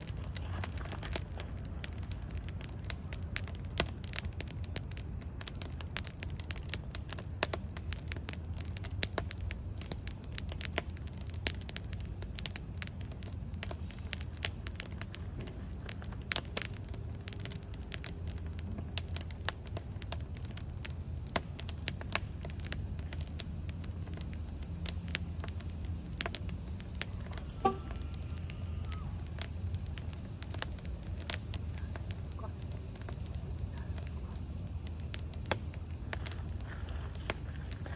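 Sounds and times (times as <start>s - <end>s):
campfire crackling and popping: 0.0s - 37.9s
crickets trilling: 0.0s - 37.9s.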